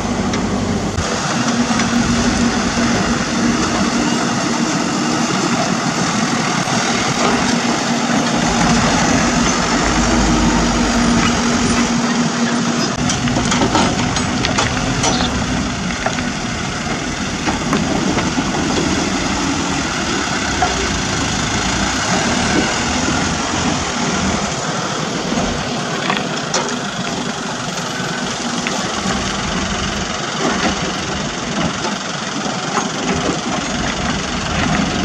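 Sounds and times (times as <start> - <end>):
excavator diesel engine: 0.0 - 35.0
truck engines idling: 0.0 - 35.0.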